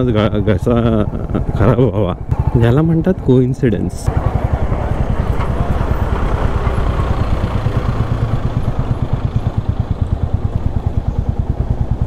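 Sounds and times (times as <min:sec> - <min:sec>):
motorcycle engine thumping: 0:02.2 - 0:12.0.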